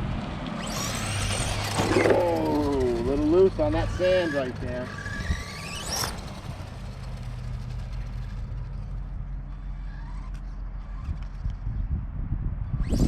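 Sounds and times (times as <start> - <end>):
low steady rumble: 0.0 - 12.9
electric motor whine: 0.4 - 11.6, 12.7 - 13.0.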